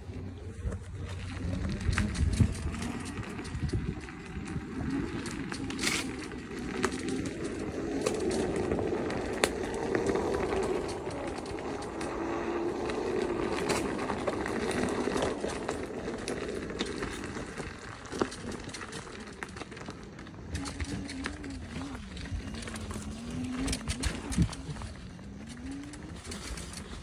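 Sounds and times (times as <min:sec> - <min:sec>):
tyre rumbling on stony ground: 0:00.0 - 0:27.0.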